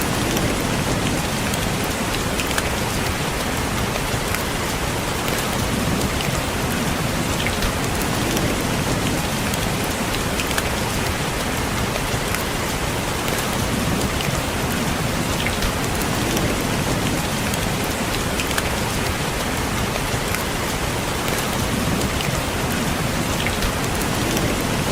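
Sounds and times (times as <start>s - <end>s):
rain hiss: 0.0s - 24.9s.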